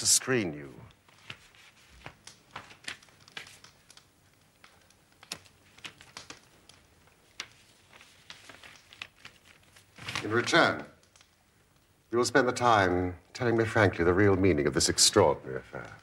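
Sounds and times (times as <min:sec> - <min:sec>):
coal fire crackling and popping: 0:00.0 - 0:16.0.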